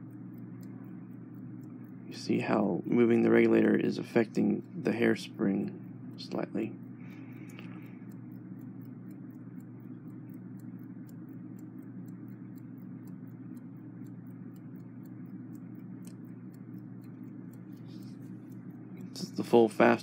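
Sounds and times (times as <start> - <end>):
clock mechanism ticking: 0.0 - 20.0
steady low hum: 0.0 - 20.0.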